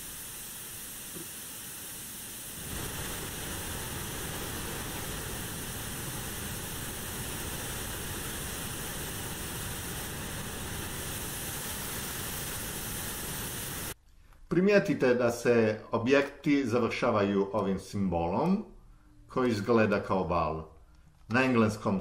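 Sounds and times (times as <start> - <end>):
white noise hiss: 0.0 - 22.0.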